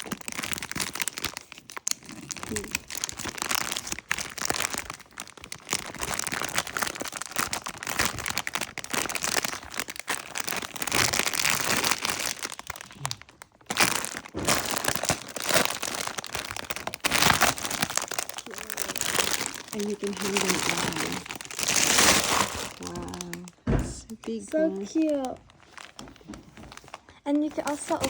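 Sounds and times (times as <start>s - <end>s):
packaging crinkling: 0.0s - 28.0s.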